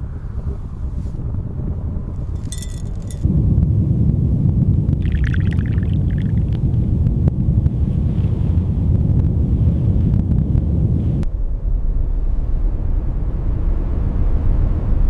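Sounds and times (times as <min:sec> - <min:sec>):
strong wind rumbling: 0:00.0 - 0:15.0.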